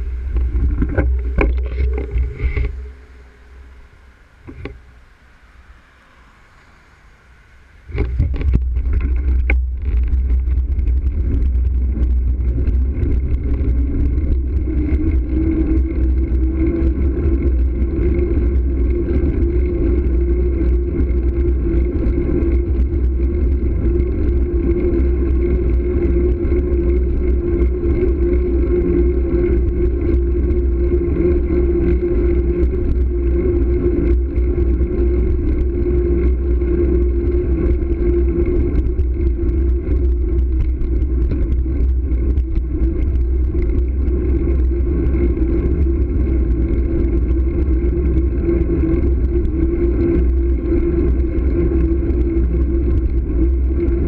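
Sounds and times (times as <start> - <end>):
bicycle tyre drone on pavement: 0.0 - 54.0
steady hum: 0.0 - 54.0
wind rumble on microphone: 0.0 - 54.0.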